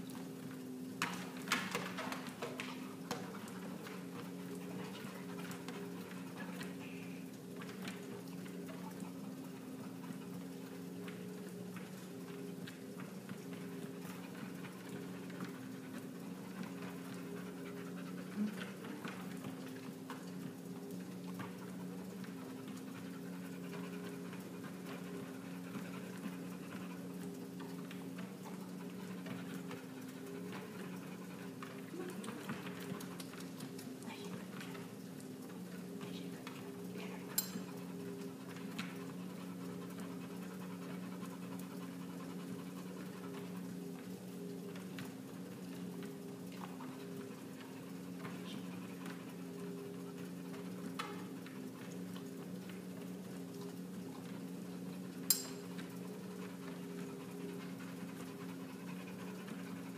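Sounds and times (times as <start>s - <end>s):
treadmill motor hum: 0.0s - 59.9s
dog panting: 1.5s - 59.9s.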